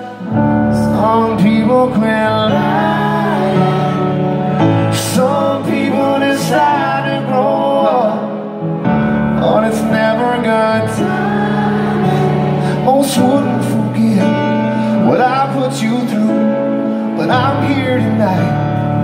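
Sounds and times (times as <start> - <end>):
electric guitar: 0.0 - 19.0
keyboards: 0.0 - 19.0
man singing: 0.0 - 19.0.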